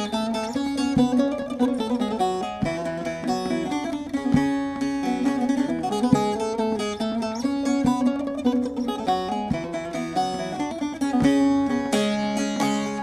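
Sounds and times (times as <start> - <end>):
strummed lute melody: 0.0 - 13.0.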